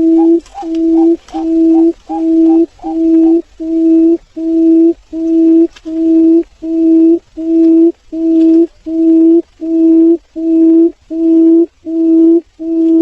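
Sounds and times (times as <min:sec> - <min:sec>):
buttonquail low hooting call: 0:00.0 - 0:13.0.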